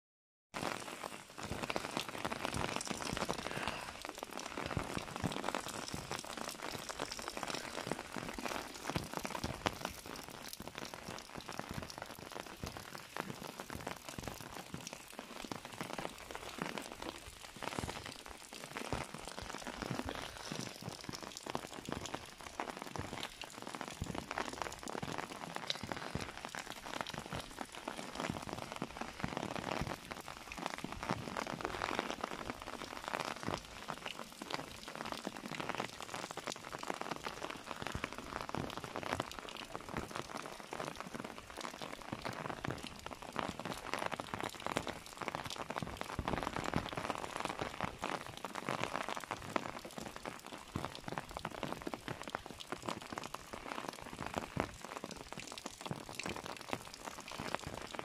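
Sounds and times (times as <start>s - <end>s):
rain falling on leaves: 0.6s - 58.0s.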